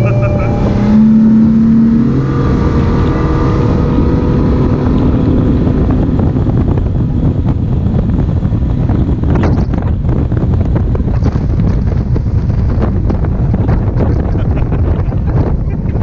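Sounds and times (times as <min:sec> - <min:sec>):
outboard engine running: 0:00.0 - 0:16.0
wind buffeting microphone: 0:00.0 - 0:16.0.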